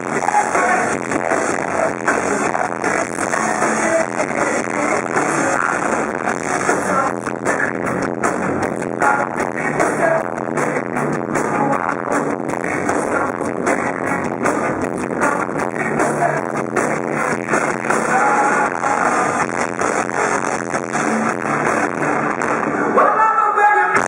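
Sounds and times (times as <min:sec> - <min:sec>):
person singing: 0:00.0 - 0:19.6
electric guitars: 0:00.0 - 0:23.0
live rock band playing: 0:00.0 - 0:23.0.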